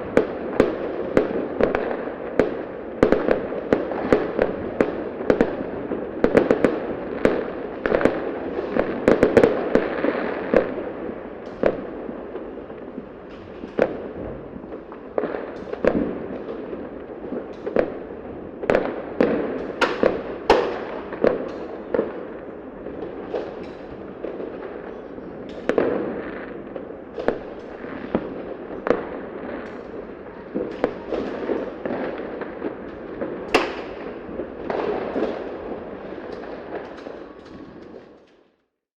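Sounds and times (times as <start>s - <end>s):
fireworks bangs and pops: 0.0s - 38.6s
fireworks crackling: 0.0s - 38.6s.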